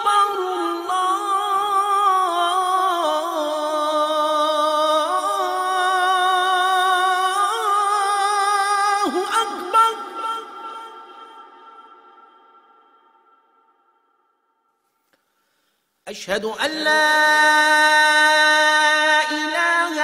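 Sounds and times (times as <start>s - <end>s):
person chanting a cappella: 0.0s - 13.9s, 16.1s - 20.0s.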